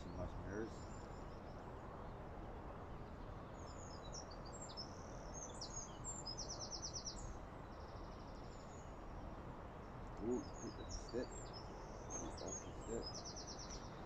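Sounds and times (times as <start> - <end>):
outdoor background hiss: 0.0 - 14.0
songbird chirping and trilling: 0.0 - 14.0.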